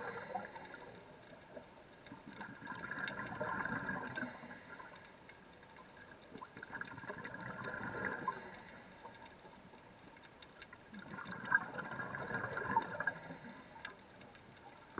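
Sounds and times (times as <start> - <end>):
underwater bubbles gurgling: 0.0 - 14.9
water noise: 0.0 - 14.9.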